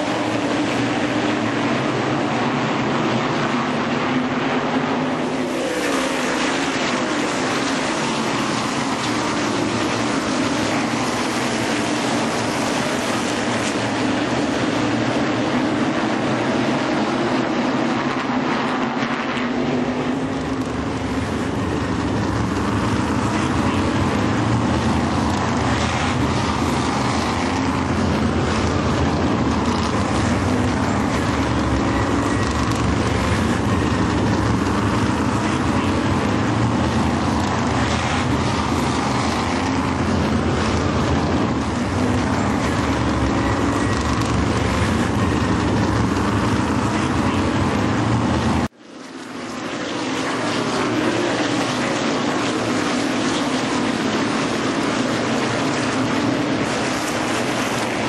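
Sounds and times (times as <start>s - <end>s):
mechanical drone with engine hum: 0.0s - 58.0s.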